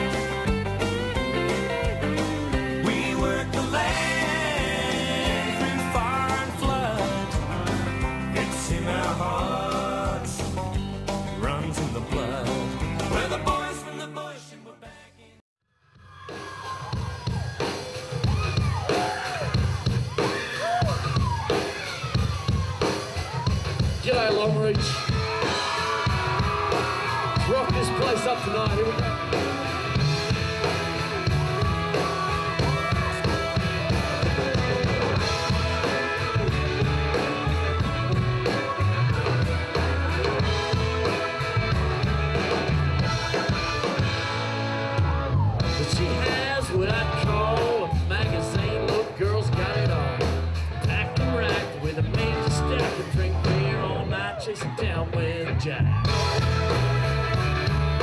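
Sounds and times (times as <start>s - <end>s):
drum kit beat: 0.0s - 13.9s, 16.1s - 53.9s, 55.9s - 58.0s
country-rock band playing: 0.0s - 14.4s, 16.1s - 58.0s.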